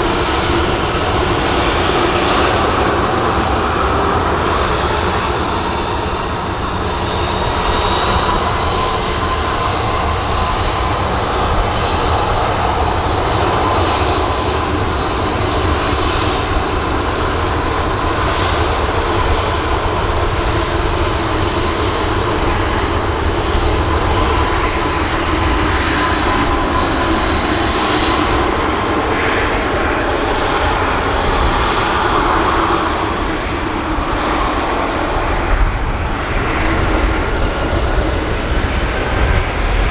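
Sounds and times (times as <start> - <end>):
jet engines at takeoff power: 0.0 - 39.9.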